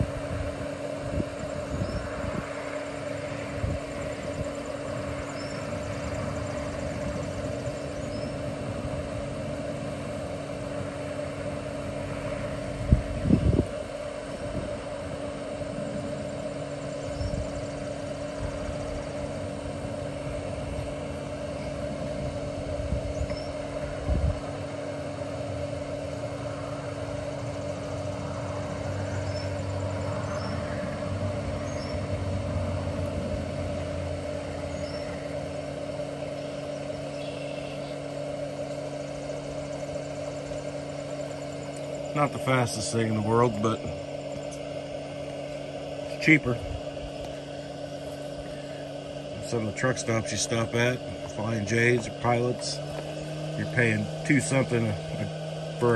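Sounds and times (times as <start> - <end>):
coffee maker humming with tones: 0.0 - 55.9.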